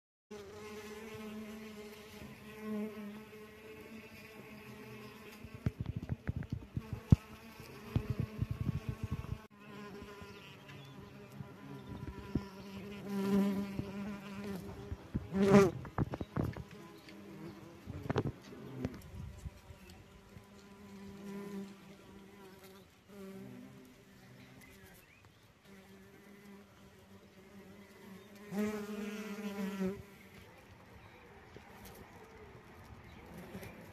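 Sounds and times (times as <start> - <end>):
wasp wings buzzing: 0.3 - 23.9, 24.5 - 30.4.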